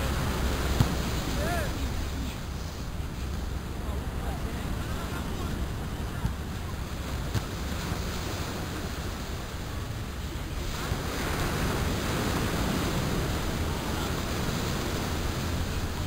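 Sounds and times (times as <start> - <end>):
waves breaking on beach: 0.0 - 16.0.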